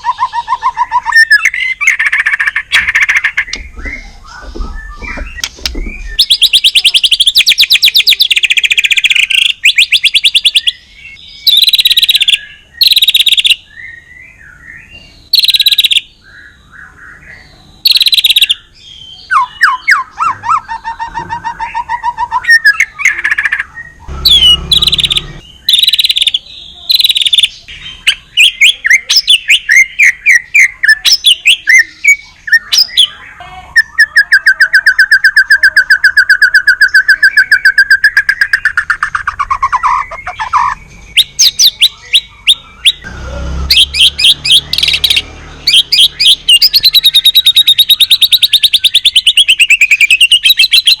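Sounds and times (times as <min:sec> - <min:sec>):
bird singing trills and whistles: 0:00.0 - 0:51.0.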